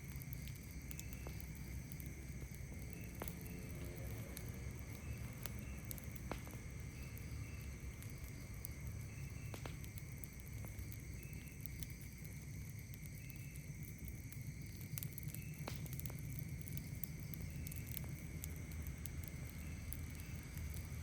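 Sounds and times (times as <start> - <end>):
campfire crackling: 0.0 - 21.0
low steady rumble: 0.0 - 21.0
night insects chirping: 0.0 - 21.0.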